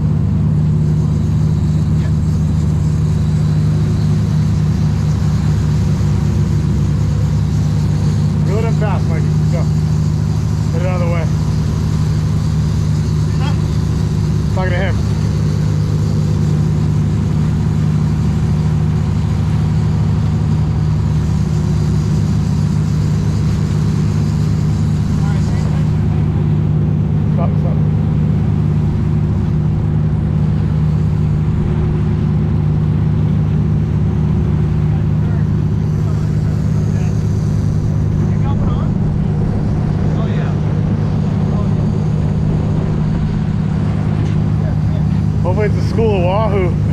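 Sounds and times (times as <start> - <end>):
boat engine humming: 0.0 - 46.9.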